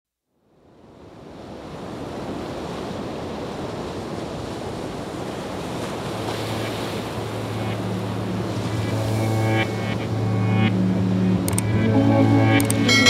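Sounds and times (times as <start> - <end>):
ocean surf breaking: 0.8 - 13.0.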